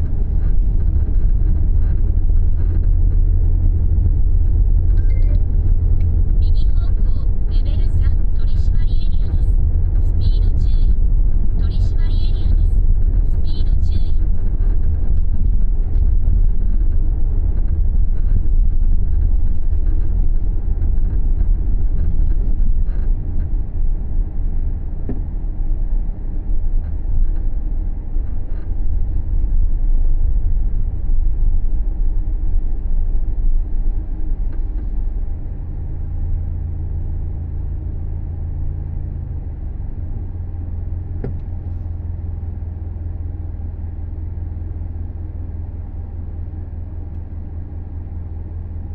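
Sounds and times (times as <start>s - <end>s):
car road and drivetrain rumble: 0.0s - 48.9s
low hum: 0.0s - 48.9s.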